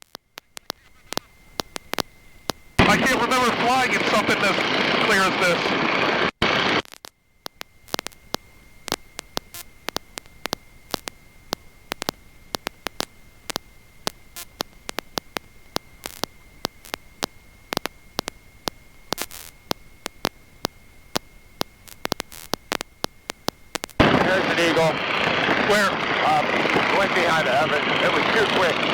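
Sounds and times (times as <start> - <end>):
crackling clicks: 0.0 - 28.9
faint hum: 0.0 - 28.9
high whine: 0.0 - 28.9
static hiss: 0.0 - 28.9.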